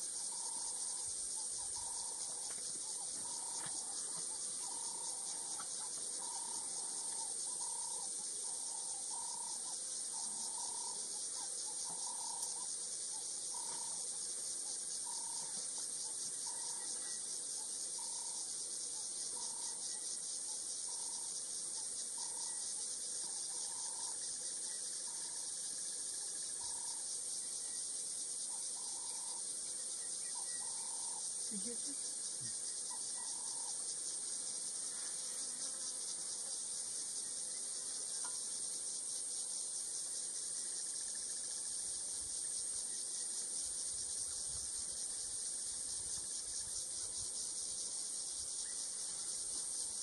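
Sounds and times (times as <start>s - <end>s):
insect chorus: 0.0s - 50.0s.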